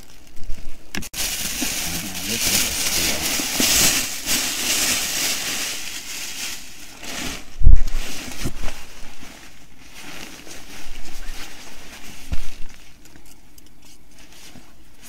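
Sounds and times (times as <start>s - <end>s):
plastic bag rustling: 0.0s - 13.4s.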